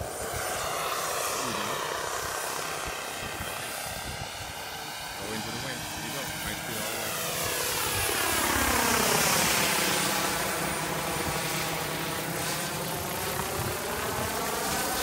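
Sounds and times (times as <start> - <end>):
helicopter rotor noise: 0.0 - 15.0
model helicopter turbine whine: 0.0 - 15.0.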